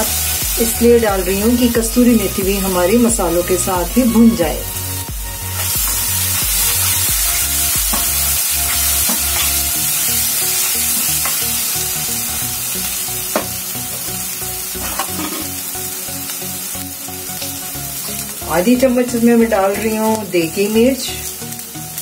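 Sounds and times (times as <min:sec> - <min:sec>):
background music: 0:00.0 - 0:22.0
masala sizzling in hot oil: 0:00.0 - 0:22.0.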